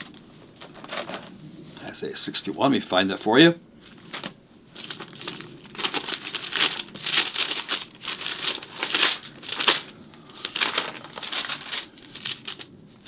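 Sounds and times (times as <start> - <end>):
thin book pages rustling: 0.0 - 1.4, 3.8 - 13.0.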